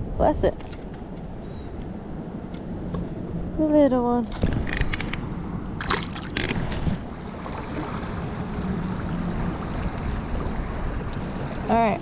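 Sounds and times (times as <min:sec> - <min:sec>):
water around kayak: 0:00.0 - 0:12.0
wind rushing over microphone: 0:01.2 - 0:12.0.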